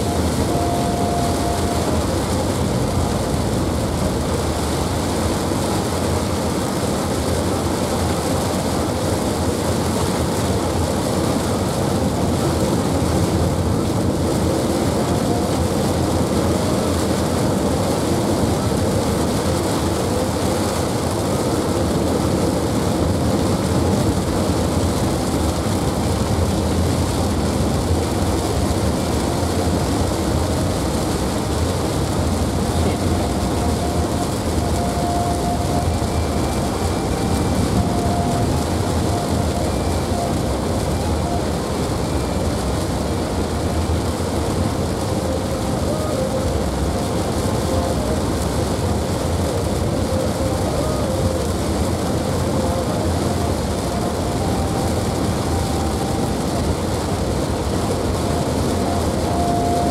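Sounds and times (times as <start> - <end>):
heavy rain on car roof: 0.0 - 59.9
tyre noise on wet road: 0.0 - 59.9.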